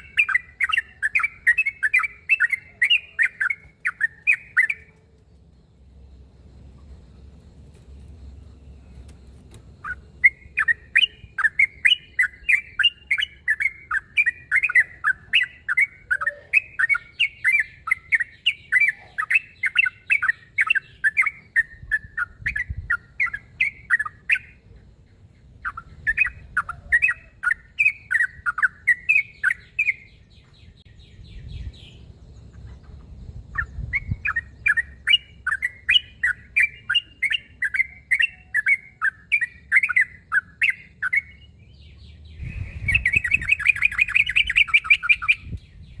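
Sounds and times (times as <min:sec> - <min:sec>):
bird singing chattering notes: 0:00.0 - 0:46.0.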